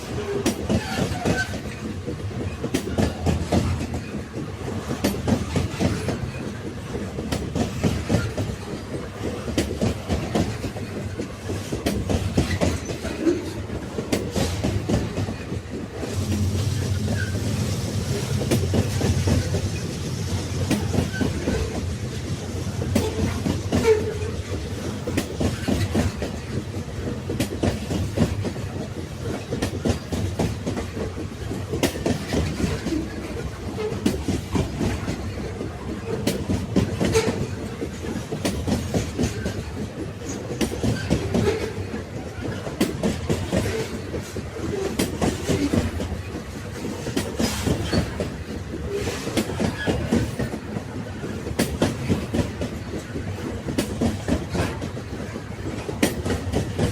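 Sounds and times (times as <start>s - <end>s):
railway wagons rumbling: 0.0s - 56.9s
wheels clicking on rails: 0.0s - 56.9s.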